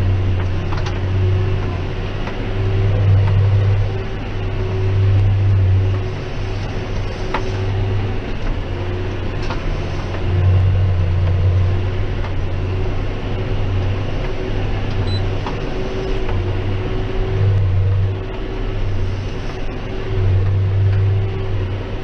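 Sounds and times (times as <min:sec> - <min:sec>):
tractor engine droning: 0:00.0 - 0:22.0.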